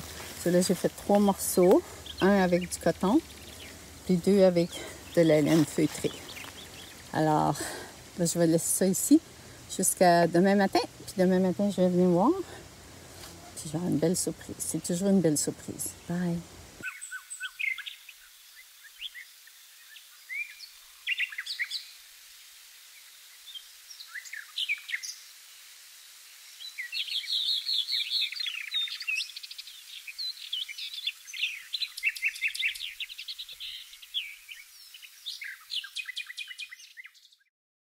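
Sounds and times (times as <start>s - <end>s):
songbirds singing and chirping: 0.0s - 22.0s, 23.0s - 25.3s, 26.5s - 37.5s.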